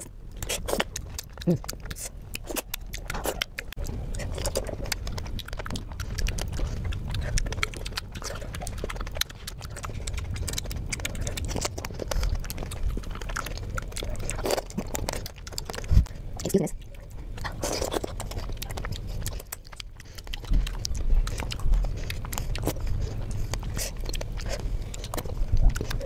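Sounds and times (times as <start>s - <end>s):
mouth smacking: 0.0s - 26.0s
person chewing juicy fruit: 0.0s - 26.0s.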